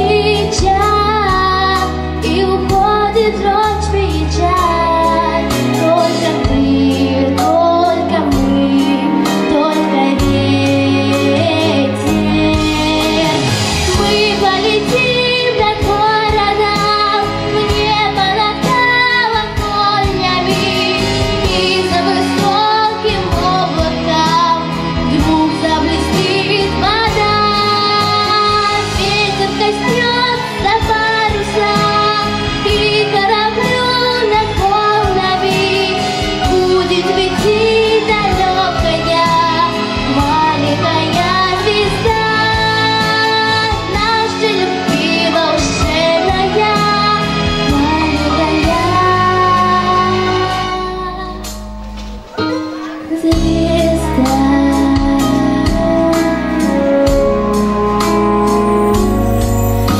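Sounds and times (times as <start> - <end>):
girl singing into microphone: 0.0 - 59.7
instrumental accompaniment: 0.0 - 59.9.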